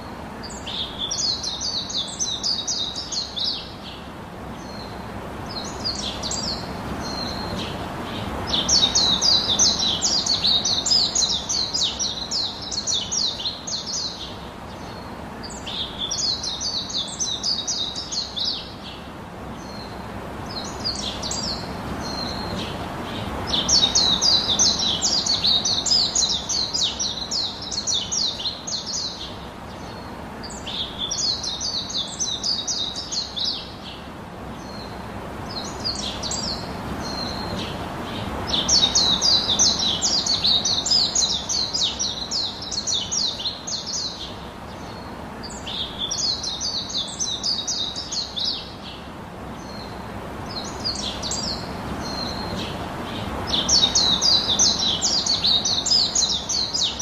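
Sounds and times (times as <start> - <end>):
birds chirping trills: 0.0 - 57.0.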